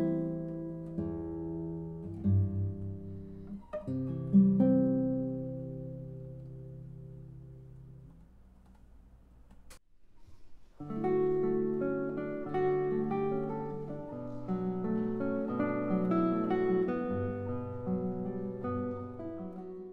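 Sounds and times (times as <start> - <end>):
classical guitar music: 0.0 - 8.2, 10.7 - 19.9.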